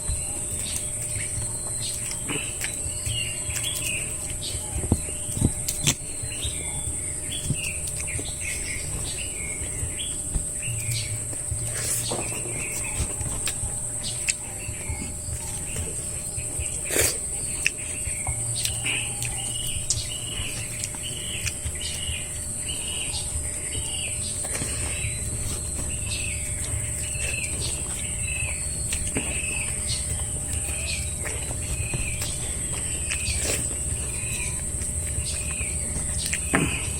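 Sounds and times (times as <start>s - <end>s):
bird chirping: 0.0s - 36.9s
high insect drone: 0.0s - 36.9s.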